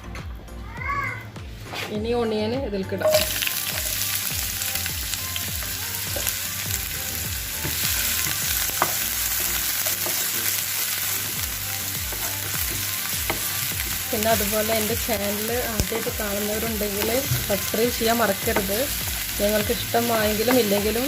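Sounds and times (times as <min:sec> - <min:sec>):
onion sizzling in frying pan: 0:03.0 - 0:21.0.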